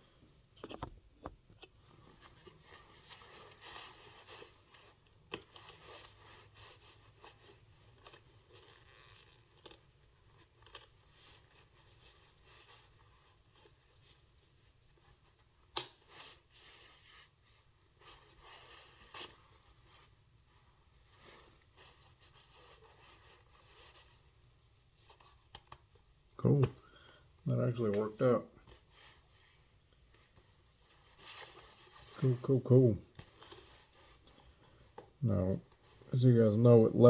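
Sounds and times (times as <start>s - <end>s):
leather sheath rubbing and scraping: 1.8s - 25.5s, 28.6s - 36.1s
clothing rustle: 1.8s - 37.0s.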